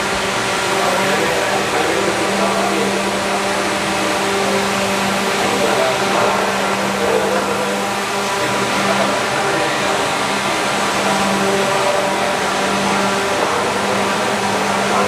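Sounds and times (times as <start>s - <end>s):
steam boiler hissing: 0.0s - 15.0s.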